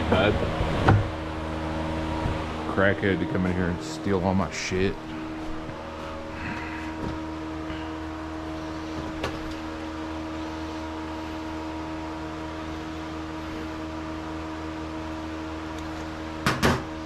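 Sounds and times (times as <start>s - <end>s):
small motor humming: 0.0s - 14.7s.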